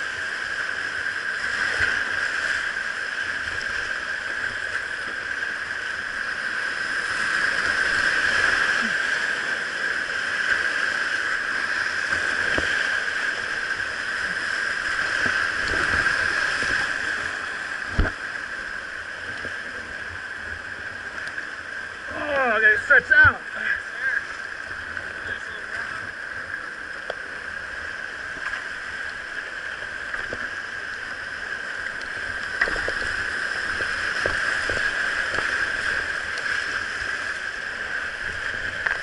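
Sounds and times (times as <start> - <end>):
rushing whitewater: 0.0 - 39.0.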